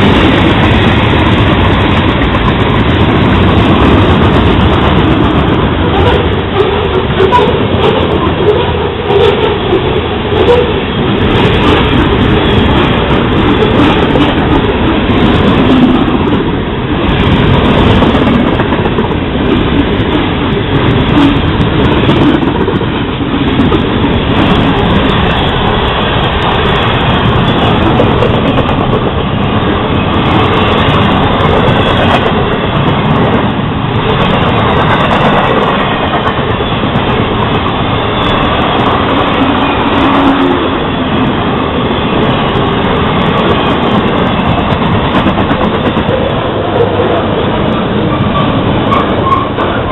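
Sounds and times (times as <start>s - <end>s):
freight train rolling past: 0.0s - 49.9s
wheels clattering on rails: 0.0s - 49.9s.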